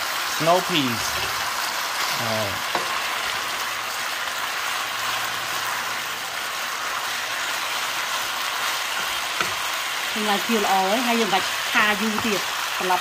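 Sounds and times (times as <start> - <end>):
meat and vegetables sizzling in pan: 0.0 - 13.0.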